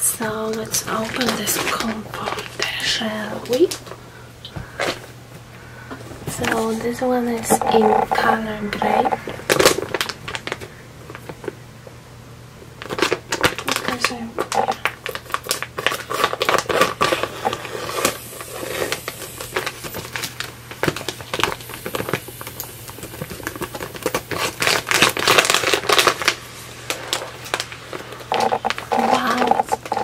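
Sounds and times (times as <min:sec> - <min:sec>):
plastic crinkling: 0:00.2 - 0:04.0, 0:04.6 - 0:11.6, 0:12.8 - 0:30.0.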